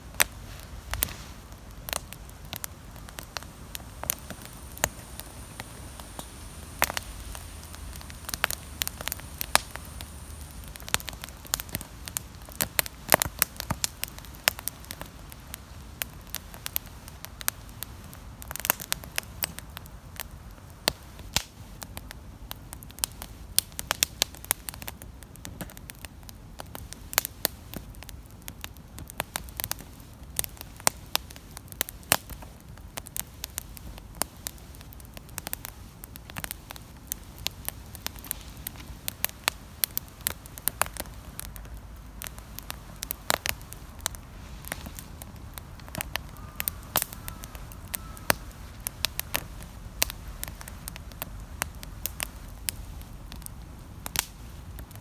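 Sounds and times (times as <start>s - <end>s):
campfire snapping and popping: 0.0s - 55.0s
fire rumbling: 0.0s - 55.0s.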